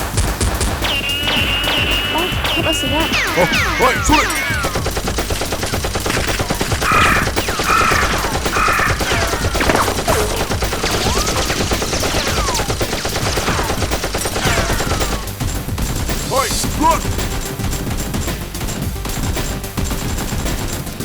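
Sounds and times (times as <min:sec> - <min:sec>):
rapid gunfire: 0:00.0 - 0:21.0.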